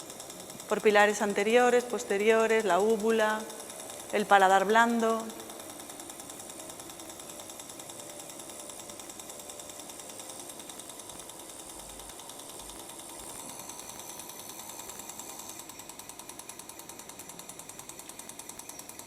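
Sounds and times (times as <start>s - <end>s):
laser rapid clicking: 0.0s - 19.0s.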